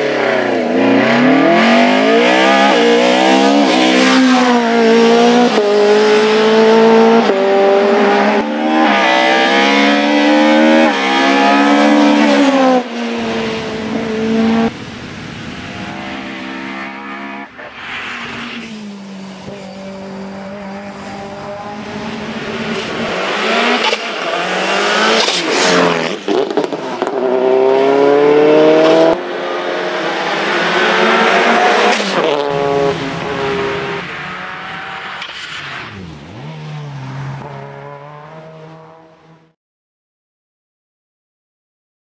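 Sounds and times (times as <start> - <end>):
race car engines revving: 0.0 - 39.6.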